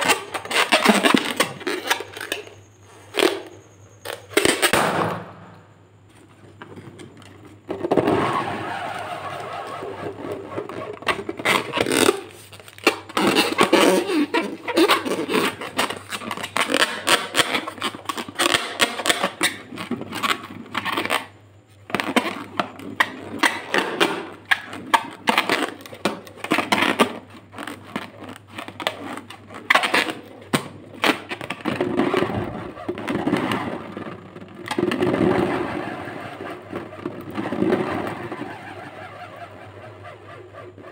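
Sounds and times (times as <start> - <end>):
fingers rubbing a balloon: 0.0 - 3.6, 7.7 - 40.9.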